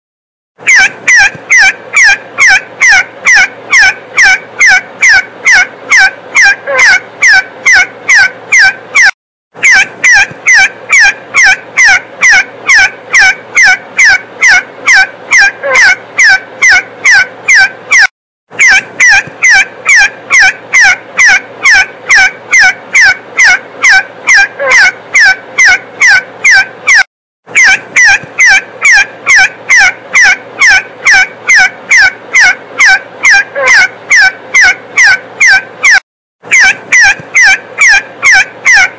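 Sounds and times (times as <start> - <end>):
partridge calling: 0.6 - 27.0, 27.6 - 38.9.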